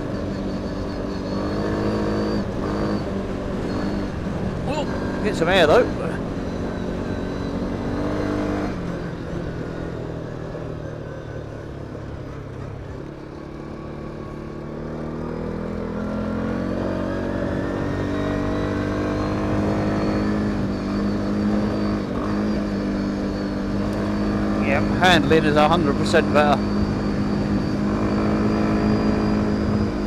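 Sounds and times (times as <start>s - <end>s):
quad bike engine: 0.0s - 30.0s.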